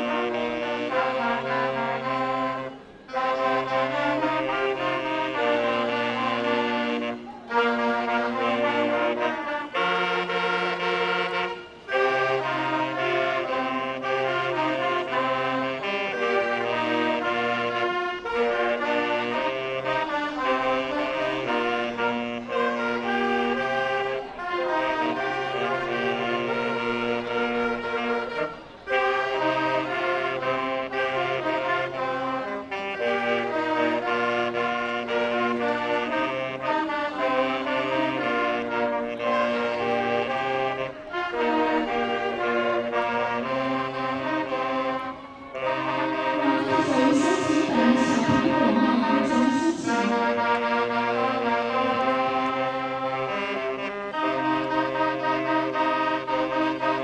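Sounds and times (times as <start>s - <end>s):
saxophone ensemble playing: 0.0s - 57.0s.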